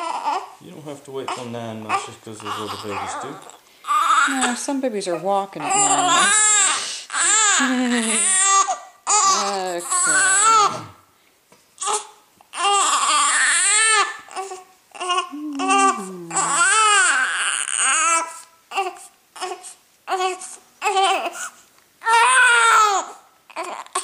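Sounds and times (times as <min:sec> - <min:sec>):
infant crying: 0:00.0 - 0:00.6, 0:01.2 - 0:04.7, 0:05.6 - 0:11.0, 0:11.8 - 0:24.0.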